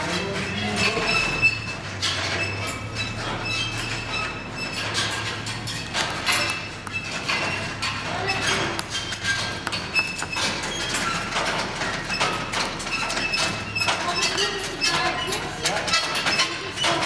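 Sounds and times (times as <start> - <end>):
wagon frame and harness clattering: 0.0 - 17.0.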